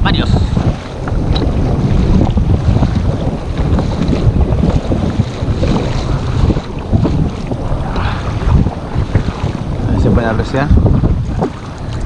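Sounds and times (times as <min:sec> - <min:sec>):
water washing around kayak: 0:00.0 - 0:12.0
wind buffeting microphone: 0:00.0 - 0:12.0.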